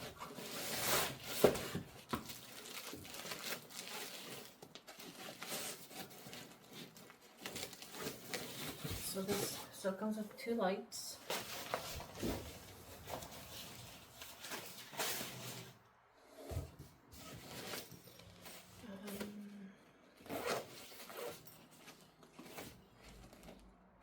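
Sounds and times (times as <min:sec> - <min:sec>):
packaging rustling and crinkling: 0:00.0 - 0:09.7, 0:11.2 - 0:15.9, 0:17.0 - 0:19.3, 0:20.2 - 0:24.0.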